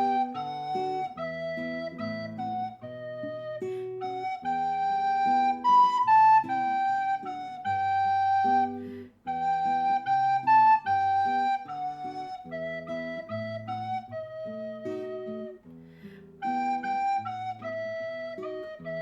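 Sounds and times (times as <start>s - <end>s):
flute-like melody: 0.0s - 19.0s.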